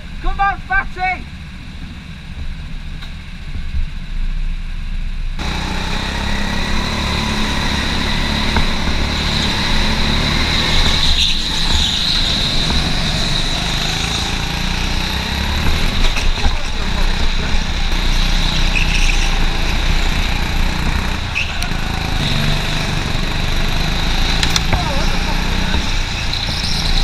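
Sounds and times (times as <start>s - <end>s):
constant high whine: 0.0s - 27.0s
go-kart engine and air rush: 0.0s - 27.0s.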